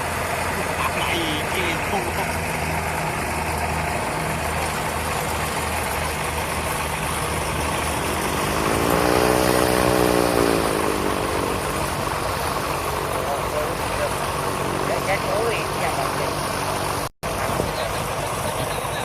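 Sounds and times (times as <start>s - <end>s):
higher engine note: 0.0s - 19.0s
light aircraft engine idling: 0.0s - 19.0s.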